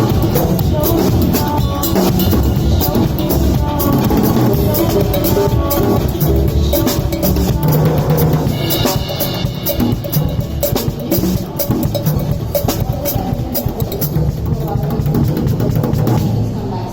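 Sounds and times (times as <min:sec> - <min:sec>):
drum kit bass drum and snare: 0:00.0 - 0:16.4
loud music: 0:00.0 - 0:16.6.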